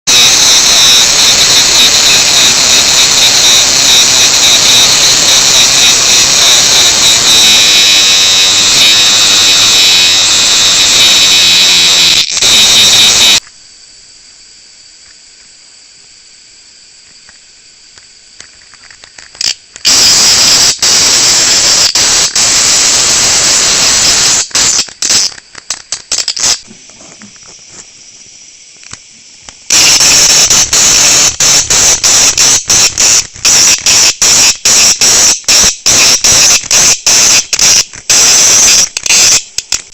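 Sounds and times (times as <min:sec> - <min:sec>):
cicada harsh buzzing: 0:00.1 - 0:13.5, 0:14.3 - 0:39.6.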